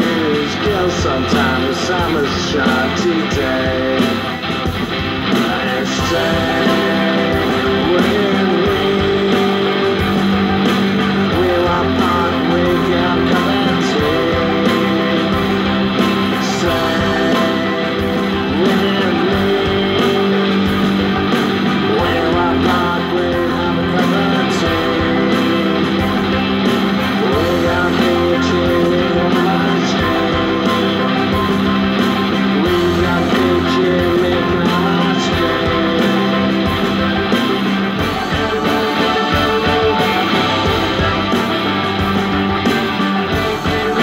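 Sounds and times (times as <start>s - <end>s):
guitar-led rock band music: 0.0s - 44.0s.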